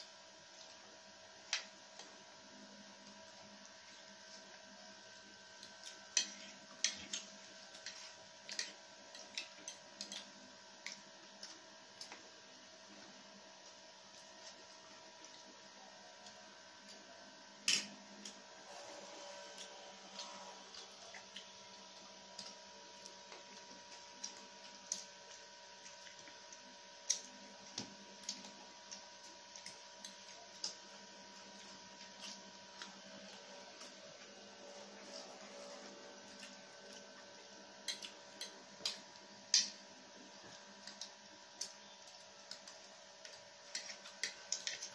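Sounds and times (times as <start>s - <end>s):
faint steady hum: 0.0s - 44.9s
chewing noodles: 5.5s - 17.1s, 18.2s - 44.9s.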